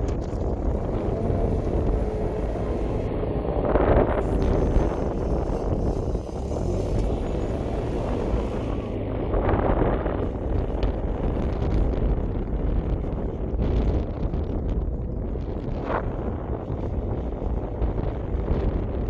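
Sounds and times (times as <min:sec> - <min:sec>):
vehicle engine running: 0:00.0 - 0:19.0
wind buffeting microphone: 0:00.0 - 0:19.0.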